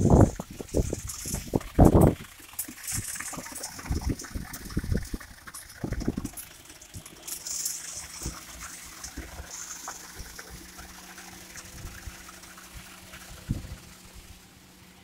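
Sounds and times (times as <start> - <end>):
low machine hum: 0.0 - 15.0
wet concrete pouring: 0.0 - 15.0.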